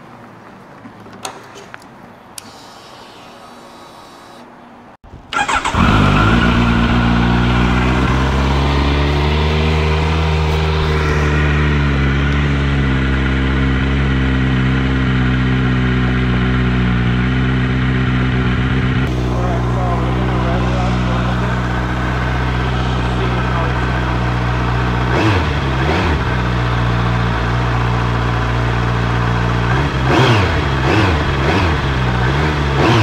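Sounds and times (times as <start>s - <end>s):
motorcycle engine starting and idling: 5.3s - 33.0s.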